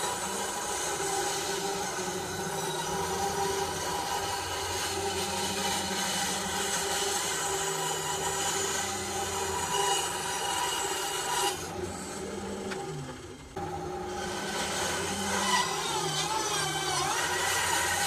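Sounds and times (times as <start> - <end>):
bandsaw blade rasping through board: 0.0 - 13.0, 14.0 - 18.0
bandsaw motor hum: 0.0 - 18.0.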